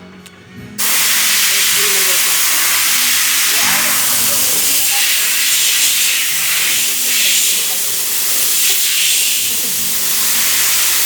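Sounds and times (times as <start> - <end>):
high-pressure water jet spraying: 0.8 - 11.0.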